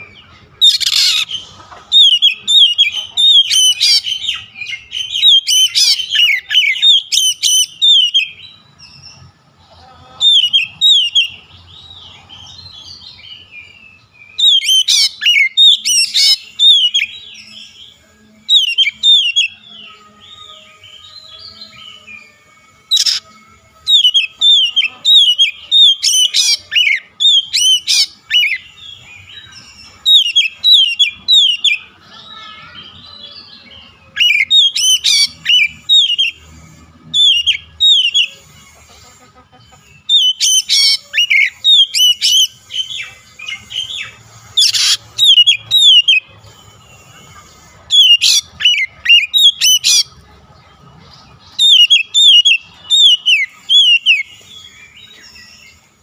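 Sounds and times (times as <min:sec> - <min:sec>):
bird singing whistled notes: 0:00.0 - 0:09.3, 0:10.3 - 0:38.7, 0:39.9 - 0:50.1, 0:51.4 - 0:56.0.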